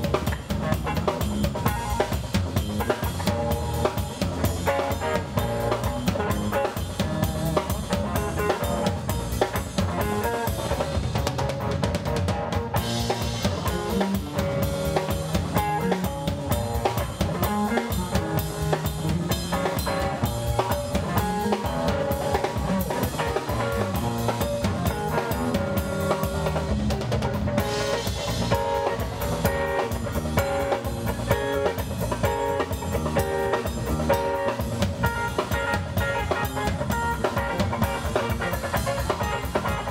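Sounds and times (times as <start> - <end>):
drum kit steady beat: 0.0 - 39.9
electric guitars: 0.0 - 39.9.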